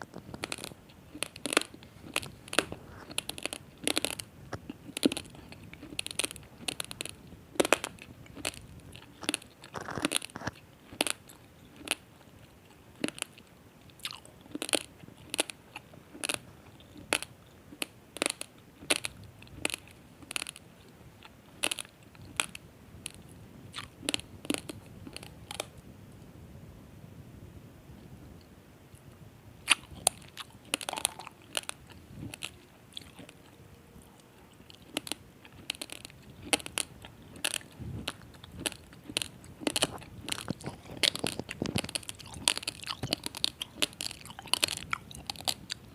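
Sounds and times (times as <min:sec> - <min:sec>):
rice grains crunched by teeth: 0:00.0 - 0:25.7, 0:29.6 - 0:33.6, 0:34.6 - 0:45.9.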